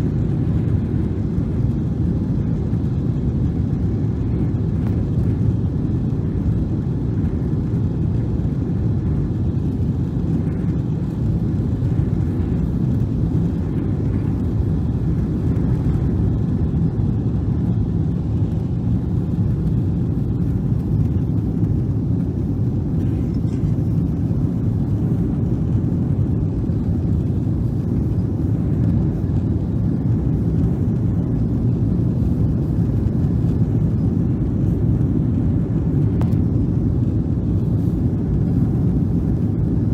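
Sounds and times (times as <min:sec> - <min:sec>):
airliner engine rumble: 0:00.0 - 0:39.9.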